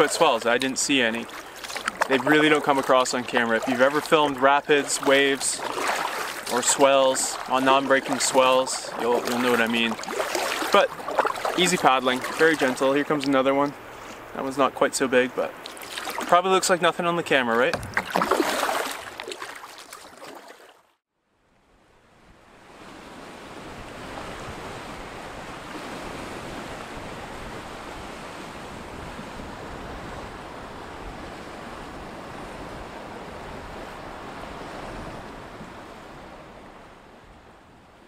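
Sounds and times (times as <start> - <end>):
lake waves on a shore: 0.0 - 20.9, 21.7 - 38.0.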